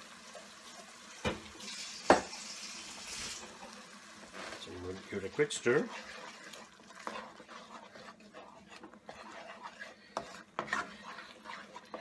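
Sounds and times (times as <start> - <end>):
spatula scraping a pan: 2.0 - 12.0.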